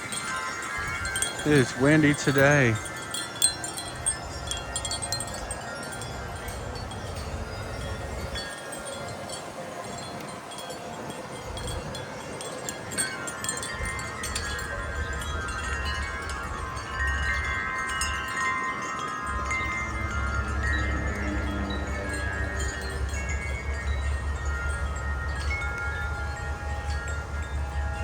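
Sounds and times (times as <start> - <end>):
wind buffeting microphone: 0.0 - 28.0
wind chimes ringing: 0.0 - 28.0.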